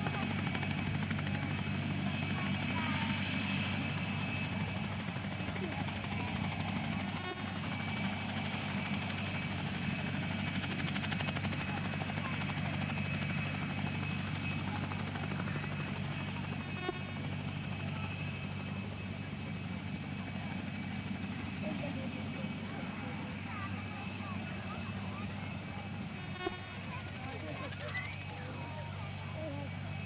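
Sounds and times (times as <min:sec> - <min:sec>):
helicopter engine whine: 0:00.0 - 0:30.0
helicopter rotor noise: 0:00.0 - 0:30.0.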